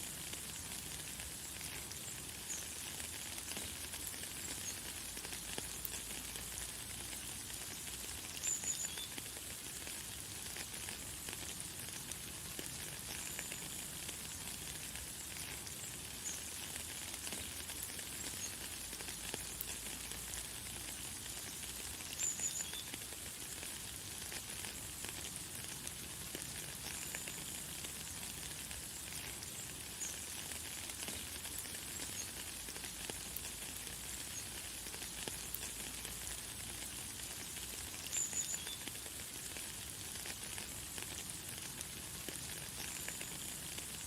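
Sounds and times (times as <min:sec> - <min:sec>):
light rain hissing: 0:00.0 - 0:44.0.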